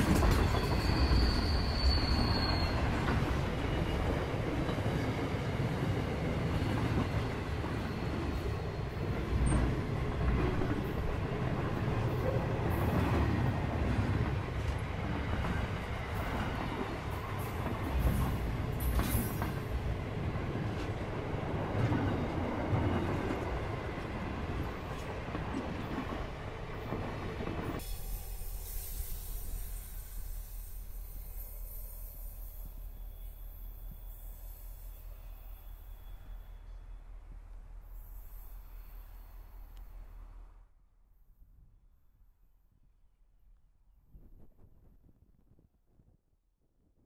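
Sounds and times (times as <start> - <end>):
freight train wheels rumbling: 0.0 - 40.2.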